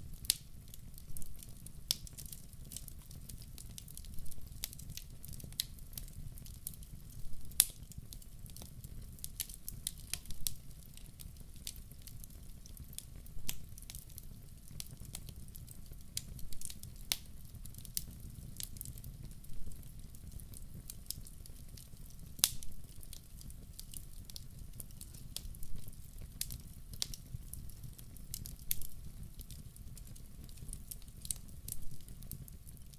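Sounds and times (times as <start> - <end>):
fire burning with crackles: 0.0 - 32.9
sharp pops from fire: 0.1 - 14.1, 14.7 - 32.9.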